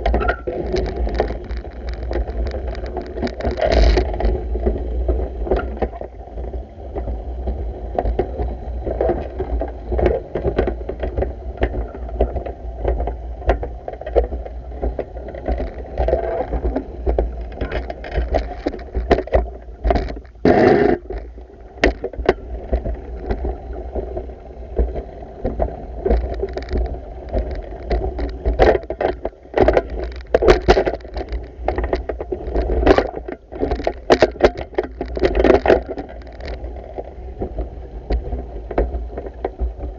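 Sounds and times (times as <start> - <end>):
small knocks and clatters: 0.0 - 39.9.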